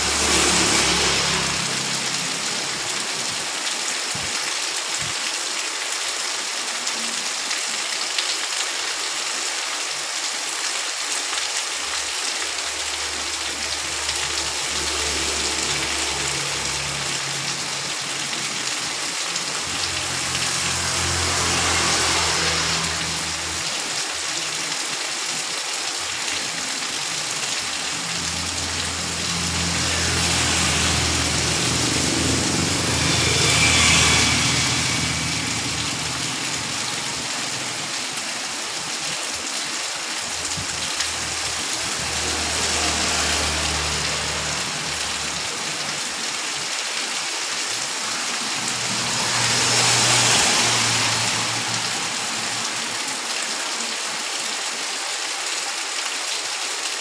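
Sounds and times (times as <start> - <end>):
heavy rain on street: 0.0 - 57.0
vehicles passing on wet road: 0.0 - 57.0.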